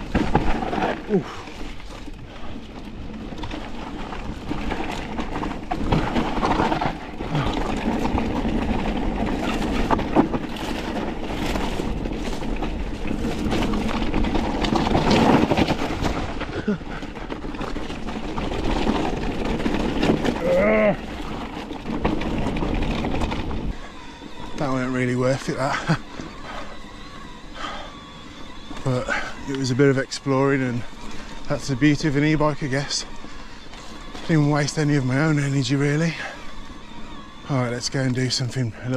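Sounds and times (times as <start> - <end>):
bike knocking over ground: 0.0 - 37.2
bike tyres and rattle on trail: 0.0 - 38.9.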